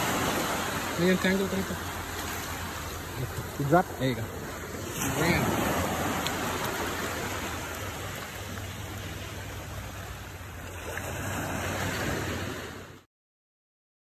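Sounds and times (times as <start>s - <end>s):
small waves washing up sand: 0.0s - 13.1s.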